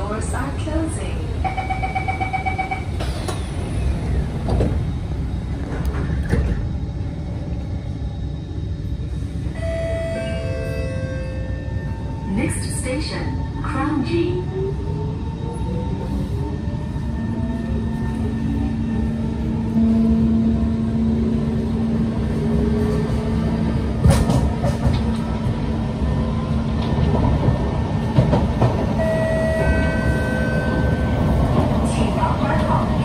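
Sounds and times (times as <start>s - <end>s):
wheels rumbling on rail: 0.0s - 33.0s.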